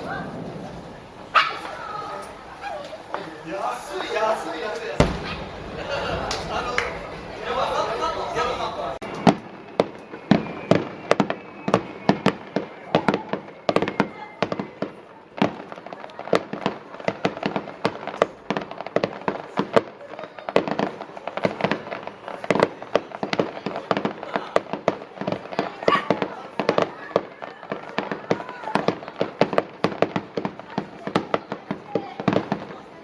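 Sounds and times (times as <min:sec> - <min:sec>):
fireworks bangs: 0:00.0 - 0:33.0.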